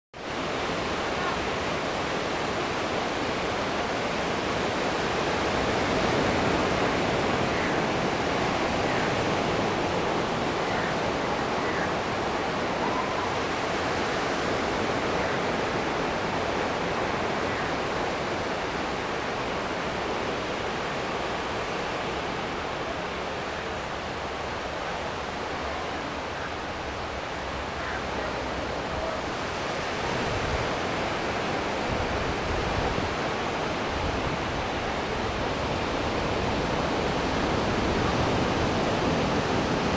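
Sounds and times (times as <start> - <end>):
surf washing up on beach: 0.2 - 39.9.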